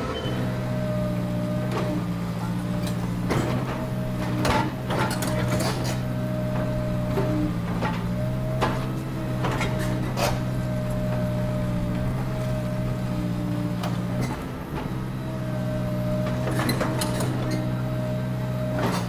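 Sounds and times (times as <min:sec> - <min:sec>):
constant hydraulic whine: 0:00.0 - 0:19.0
excavator diesel engines: 0:00.0 - 0:19.0.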